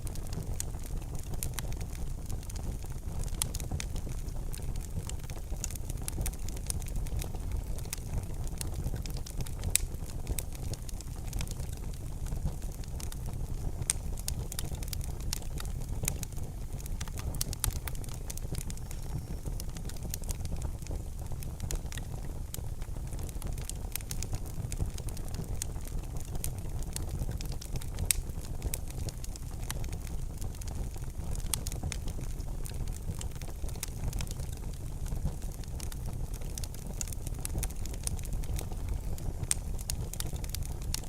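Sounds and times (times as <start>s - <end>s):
fire crackling and popping: 0.0s - 41.0s
fire rumbling: 0.0s - 41.0s.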